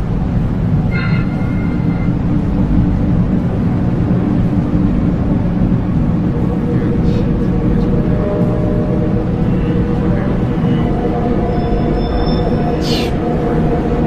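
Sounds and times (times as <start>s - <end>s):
loud low rumbling drone: 0.0s - 14.0s.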